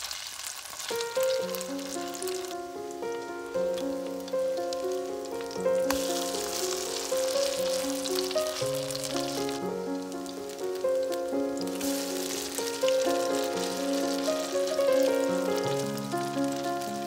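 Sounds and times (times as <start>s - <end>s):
crackling sizzle of frying: 0.0s - 17.0s
background music with held notes: 1.0s - 17.0s.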